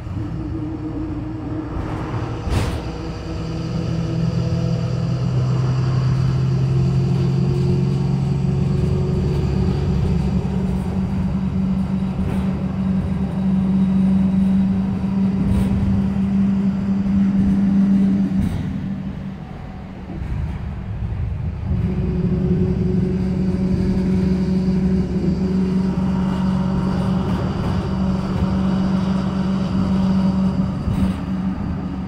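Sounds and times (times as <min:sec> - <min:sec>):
diesel bus engine running: 0:00.0 - 0:32.0
road noise: 0:00.0 - 0:32.0.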